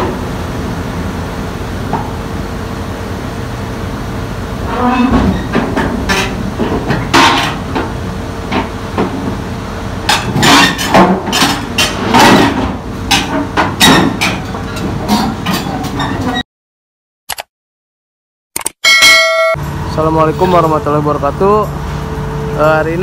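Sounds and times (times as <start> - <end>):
diesel engine running: 0.0 - 15.4, 19.6 - 23.0.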